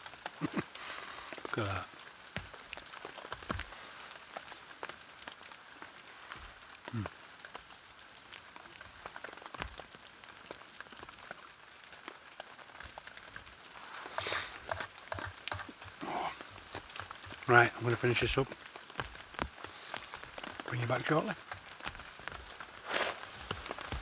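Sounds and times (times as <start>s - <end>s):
rain pattering on a tarp: 0.0s - 24.0s.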